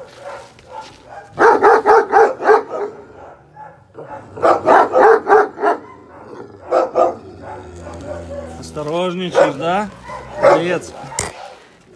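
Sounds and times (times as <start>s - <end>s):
dog barking: 0.0s - 11.9s.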